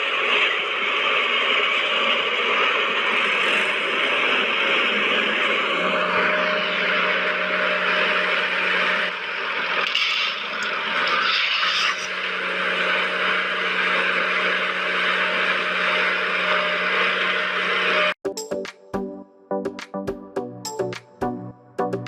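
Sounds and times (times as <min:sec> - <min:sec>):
small electric motor whirring: 0:00.0 - 0:18.2.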